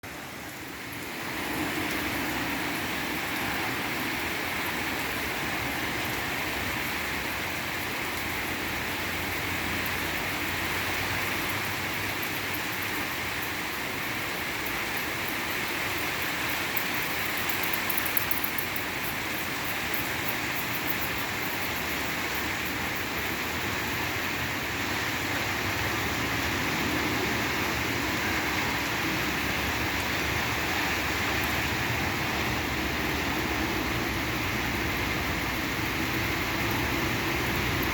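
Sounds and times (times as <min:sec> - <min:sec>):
raindrops ticking: 0:00.0 - 0:24.6, 0:28.6 - 0:37.9
steady rain hiss: 0:00.0 - 0:37.9.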